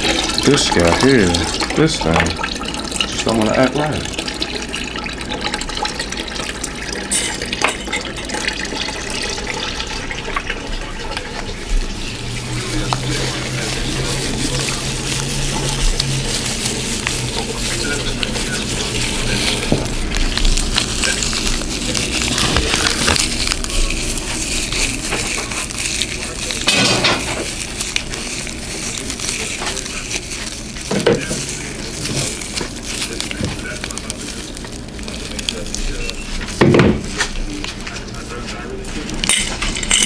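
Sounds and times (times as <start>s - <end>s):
dried petals crackling: 0.0s - 40.0s.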